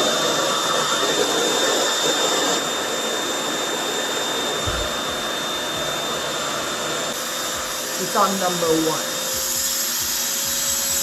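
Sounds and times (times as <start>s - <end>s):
blow dryer suction whoosh: 0.0s - 11.0s.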